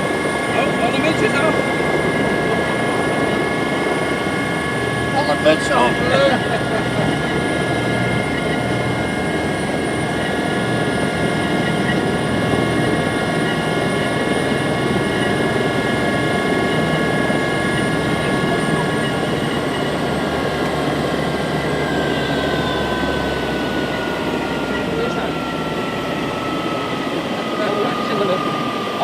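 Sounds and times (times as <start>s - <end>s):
helicopter rotor and engine rumble: 0.0s - 29.0s
high turbine whine: 0.0s - 29.0s.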